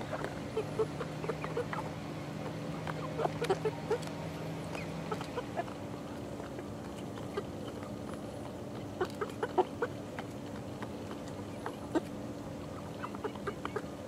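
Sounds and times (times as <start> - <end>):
chicks clucking softly: 0.0 - 14.0
steady low hum: 0.0 - 14.0.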